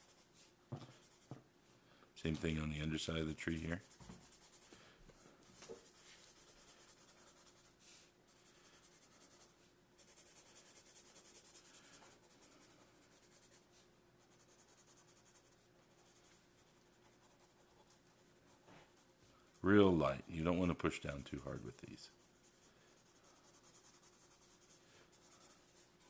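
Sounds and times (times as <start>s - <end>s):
marker scratching on paper: 0.0s - 1.4s, 5.5s - 26.0s.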